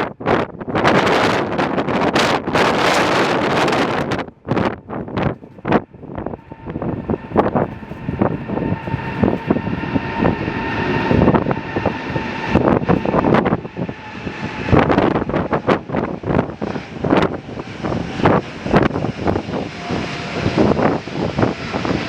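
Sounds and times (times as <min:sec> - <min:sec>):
jet engines whining: 0:00.0 - 0:22.0
wind buffeting microphone: 0:00.0 - 0:22.0.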